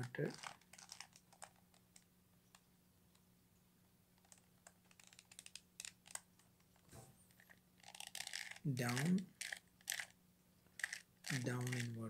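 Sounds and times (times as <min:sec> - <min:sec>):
puzzle cube plastic clicks: 0:00.0 - 0:02.1, 0:04.2 - 0:12.0.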